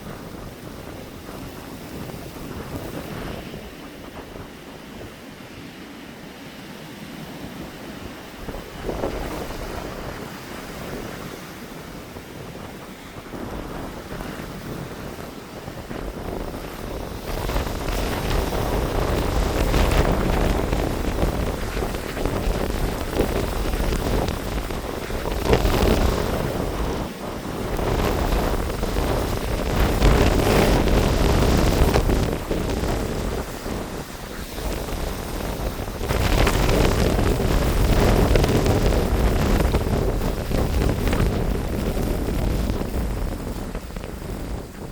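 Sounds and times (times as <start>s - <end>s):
blizzard wind gusting: 0.0s - 44.9s.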